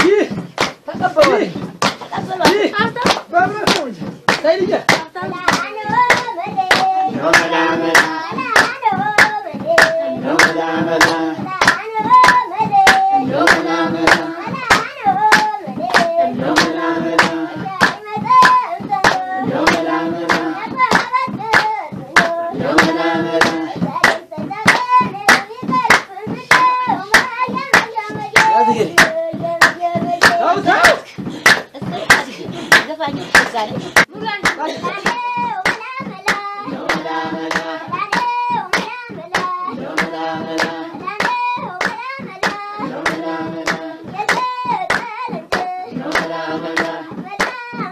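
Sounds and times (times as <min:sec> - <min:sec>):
rhythmic hand clapping: 0:00.0 - 0:47.9
voices singing: 0:00.0 - 0:47.9.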